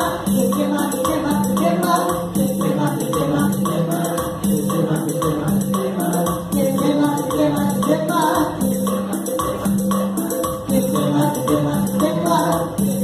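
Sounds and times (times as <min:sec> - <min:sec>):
quick percussion beat: 0:00.0 - 0:13.0
upbeat electronic keyboard music: 0:00.0 - 0:13.0.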